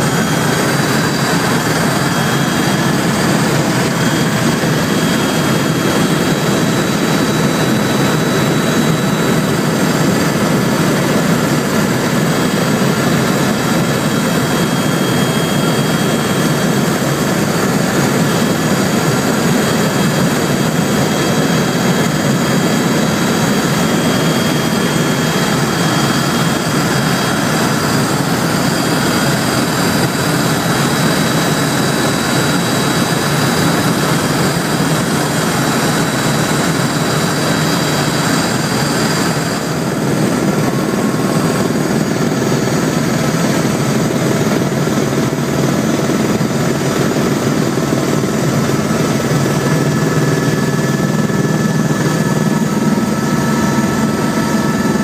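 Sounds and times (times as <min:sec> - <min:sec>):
helicopter turbine and rotor noise: 0:00.0 - 0:55.0.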